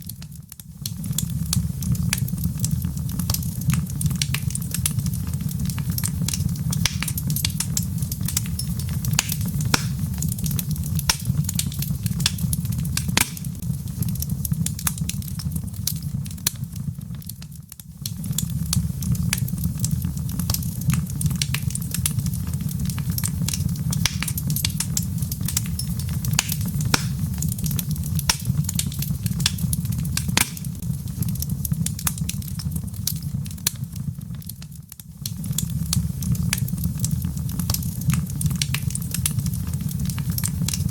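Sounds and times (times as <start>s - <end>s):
steady low rush of fire: 0.0s - 40.9s
wood fire crackling: 0.0s - 40.9s.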